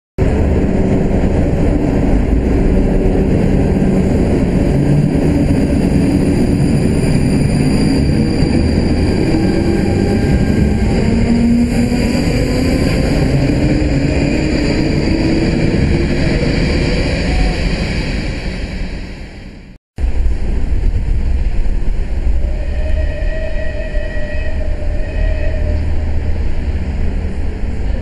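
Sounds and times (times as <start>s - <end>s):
electric train running past: 0.2s - 28.0s.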